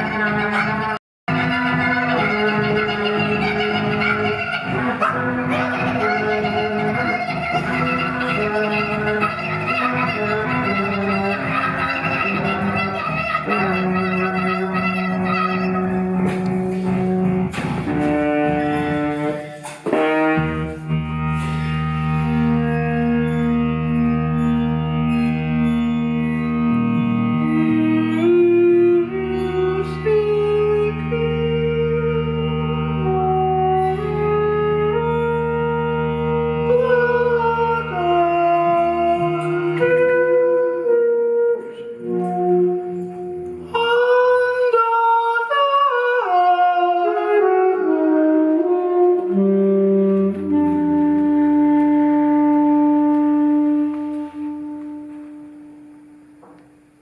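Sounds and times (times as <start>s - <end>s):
live instrumental ensemble music: 0.0s - 57.0s.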